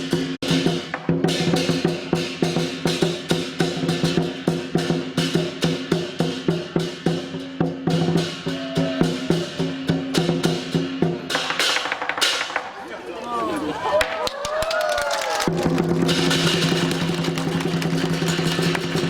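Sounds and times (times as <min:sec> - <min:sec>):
drum beat: 0:00.0 - 0:12.8, 0:15.4 - 0:19.0.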